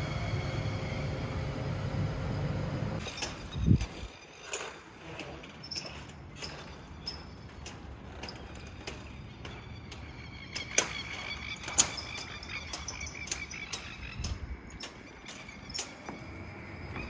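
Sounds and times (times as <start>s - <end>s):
roller shutter door rattling: 3.0s - 17.0s.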